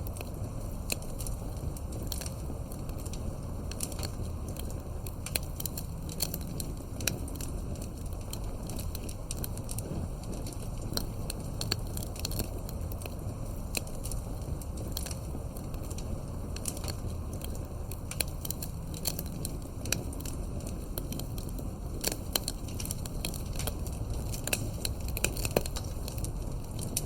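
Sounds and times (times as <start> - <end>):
fireplace crackling and popping: 0.0 - 27.0
low steady rumble: 0.0 - 27.0.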